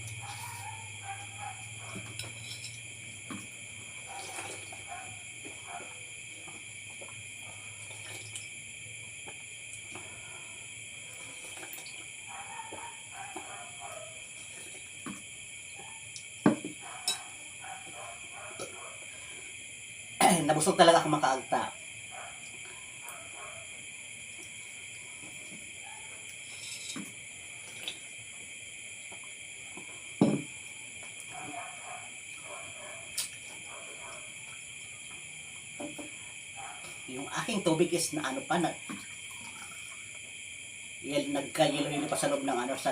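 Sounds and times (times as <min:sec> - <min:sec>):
night insects chirring: 0:00.0 - 0:42.9.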